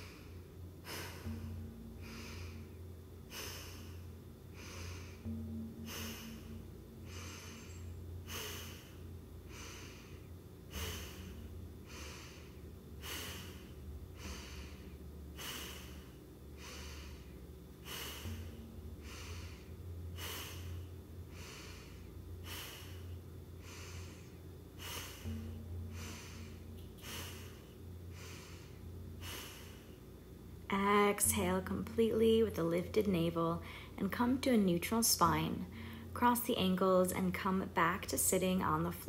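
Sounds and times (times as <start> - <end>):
rhythmic loud breathing: 0.0 - 31.9, 33.6 - 34.0, 35.6 - 36.2
steady low hum: 0.0 - 39.0.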